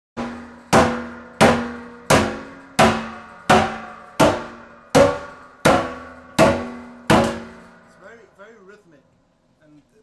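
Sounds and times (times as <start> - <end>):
sledgehammer striking steel drum: 0.2 - 8.2
steel ringing: 0.2 - 8.6.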